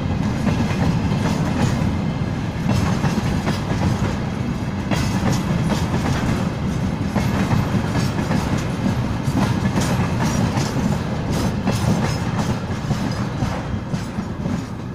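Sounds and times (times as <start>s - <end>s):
train wheels rumbling on rail: 0.0s - 14.9s
wheels clattering over rail joints: 2.6s - 14.9s.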